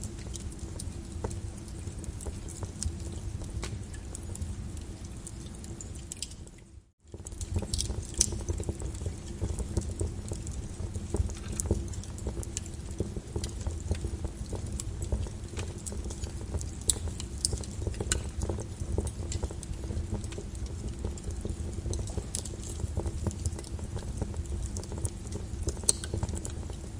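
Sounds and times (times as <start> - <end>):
lava crackling and popping: 0.0 - 26.9.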